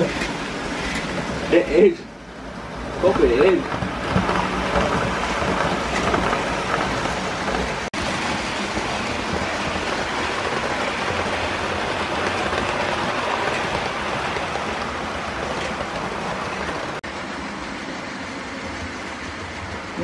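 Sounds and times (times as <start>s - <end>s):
model trains rattling on track: 0.0s - 20.0s.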